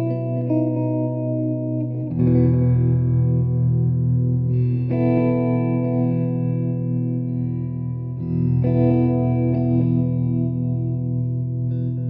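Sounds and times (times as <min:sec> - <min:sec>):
electric guitar chords with effects: 0:00.0 - 0:12.0.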